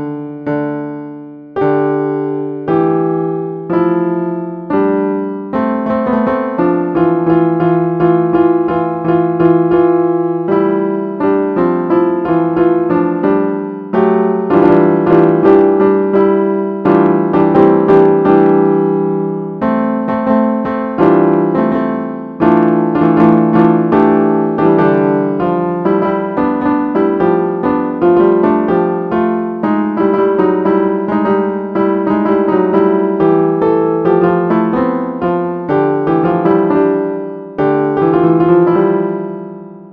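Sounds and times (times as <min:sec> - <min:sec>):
sampled piano tune: 0:00.0 - 0:39.9.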